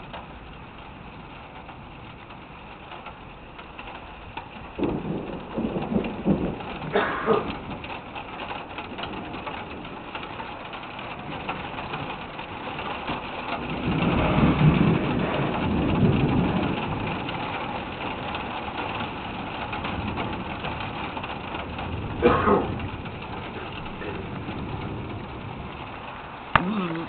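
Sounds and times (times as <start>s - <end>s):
steady rain: 0.0s - 27.0s
thunder rumble: 0.0s - 27.0s.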